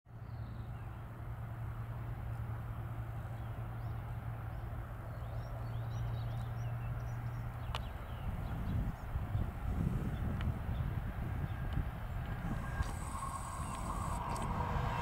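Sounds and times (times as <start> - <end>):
freight train rumble and hum: 0.1 - 15.0.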